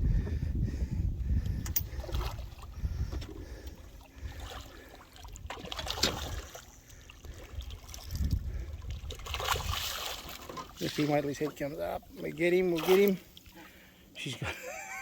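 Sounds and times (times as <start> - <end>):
water splashing and trickling: 1.5 - 14.3.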